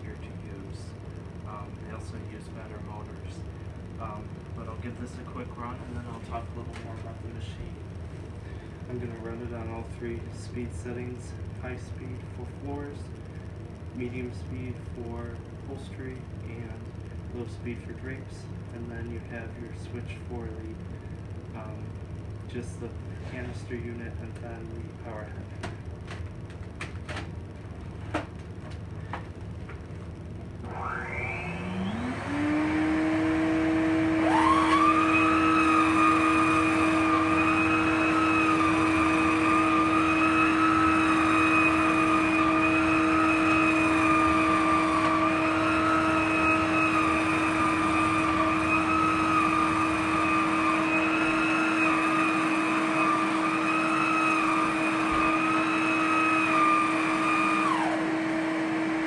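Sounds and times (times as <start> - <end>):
higher power head whine: 0.0 - 59.0
vacuum motor whine: 0.0 - 59.0.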